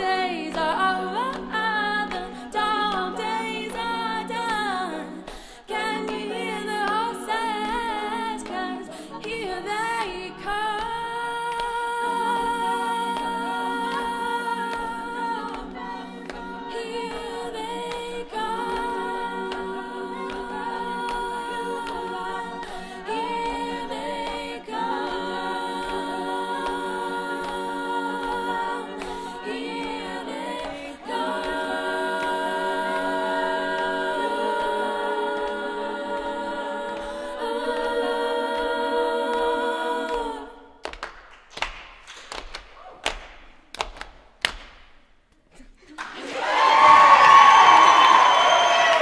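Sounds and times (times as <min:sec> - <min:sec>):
a cappella group singing chords: 0:00.0 - 0:41.2, 0:45.6 - 0:49.0.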